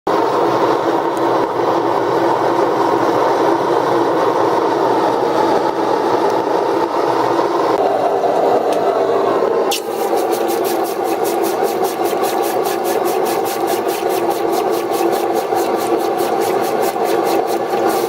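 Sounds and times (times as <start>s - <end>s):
forge roaring steadily: 0.1s - 18.0s.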